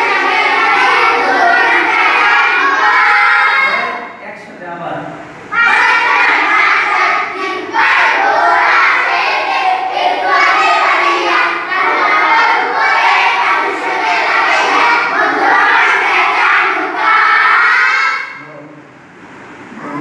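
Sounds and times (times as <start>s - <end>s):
children chanting in unison: 0.0s - 3.9s, 5.5s - 18.4s.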